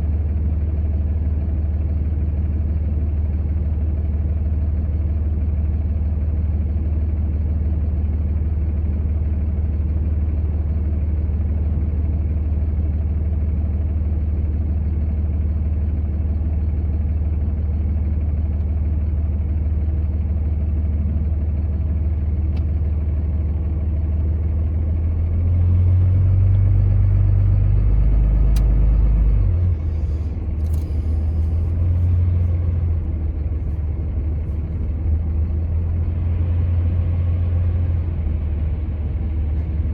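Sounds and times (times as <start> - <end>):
vehicle rumbling on the move: 0.0 - 39.9.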